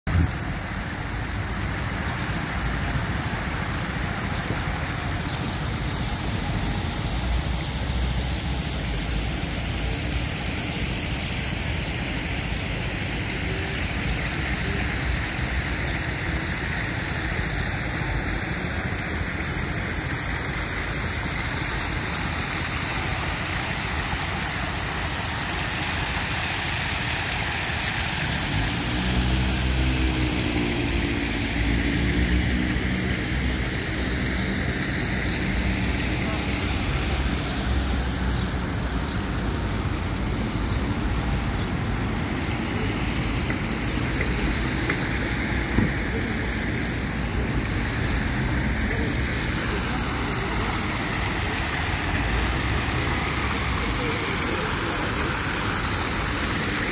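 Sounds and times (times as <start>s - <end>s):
city traffic noise: 0.1s - 56.9s.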